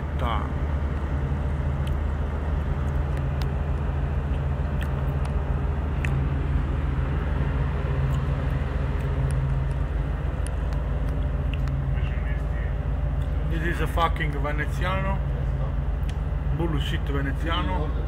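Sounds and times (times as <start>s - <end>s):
boat diesel engines droning: 0.0s - 18.0s.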